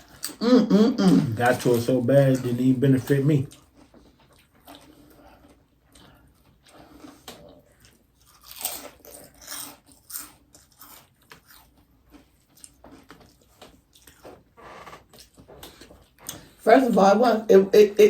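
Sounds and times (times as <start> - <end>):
crunchy chewing and biting: 1.2 - 16.5.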